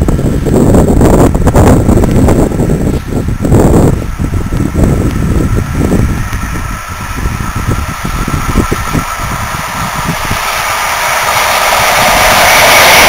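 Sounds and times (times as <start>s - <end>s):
electric train passing at speed: 0.0s - 13.0s
wind buffeting microphone: 0.0s - 13.0s.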